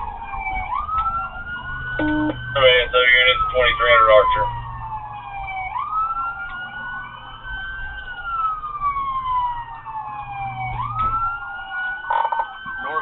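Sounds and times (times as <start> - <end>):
low vehicle rumble: 0.0 - 12.7
police siren wailing: 0.0 - 13.0.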